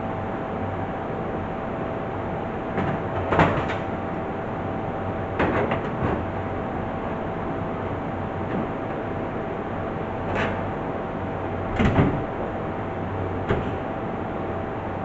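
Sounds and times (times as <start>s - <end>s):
machine hum with faint tone: 0.0s - 15.0s.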